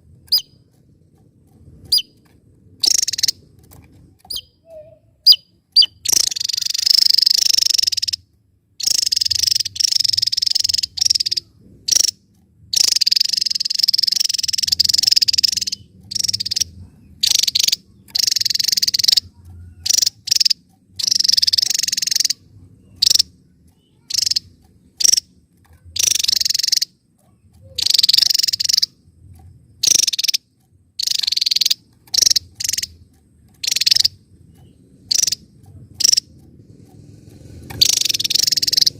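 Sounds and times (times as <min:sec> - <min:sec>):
bird high-pitched trilling: 0:00.3 - 0:00.6, 0:01.8 - 0:02.2, 0:02.8 - 0:03.4, 0:04.2 - 0:38.9.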